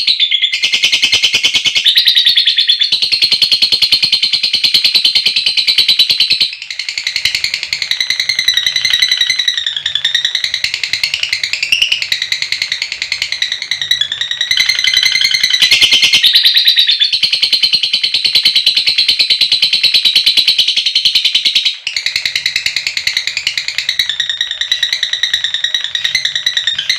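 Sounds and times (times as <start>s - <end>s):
lovebird trilling: 0.0s - 26.9s.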